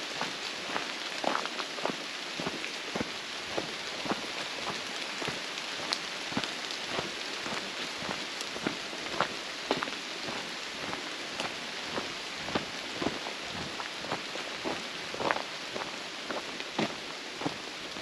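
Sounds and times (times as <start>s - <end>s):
footsteps crunching on leaves: 0.0s - 18.0s
steady hiss: 0.0s - 18.0s.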